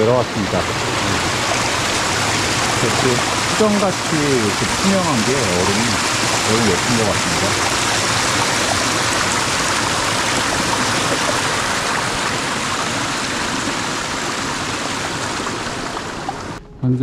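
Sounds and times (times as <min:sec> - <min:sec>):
mountain stream rushing: 0:00.0 - 0:16.6.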